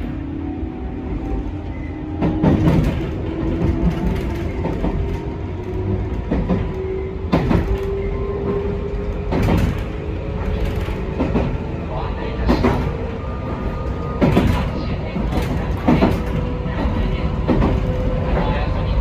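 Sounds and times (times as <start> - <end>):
train rumble with motor hum: 0.0 - 19.0.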